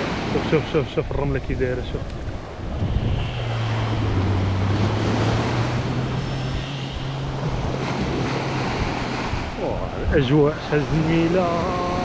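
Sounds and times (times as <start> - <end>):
engine humming: 0.0 - 12.0
waves washing: 0.0 - 12.0
wind on microphone: 0.0 - 12.0.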